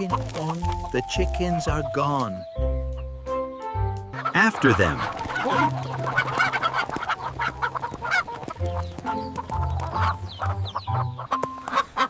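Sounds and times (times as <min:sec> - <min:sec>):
background music with low notes: 0:00.0 - 0:12.0
chickens clucking: 0:00.0 - 0:12.0.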